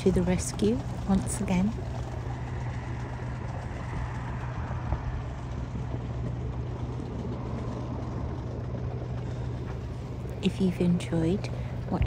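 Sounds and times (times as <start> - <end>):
boat engine running at low revs: 0.0 - 12.0.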